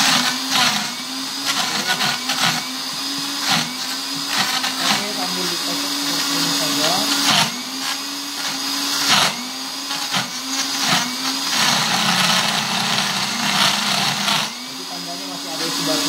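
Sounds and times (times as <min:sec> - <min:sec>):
blender motor running: 0:00.0 - 0:16.0
ice crackling in blender: 0:00.0 - 0:16.0.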